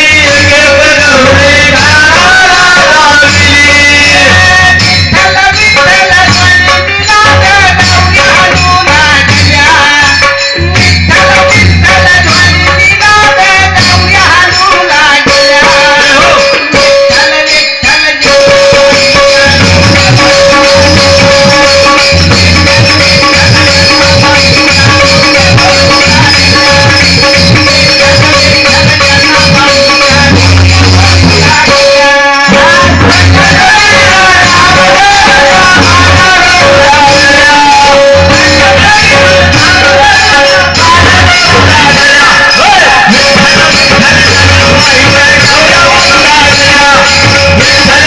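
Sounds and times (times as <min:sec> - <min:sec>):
hand drum beats: 0:00.0 - 0:48.0
instrumental accompaniment with bass: 0:00.0 - 0:48.0
jingling percussion: 0:00.0 - 0:48.0
person singing: 0:00.0 - 0:48.0.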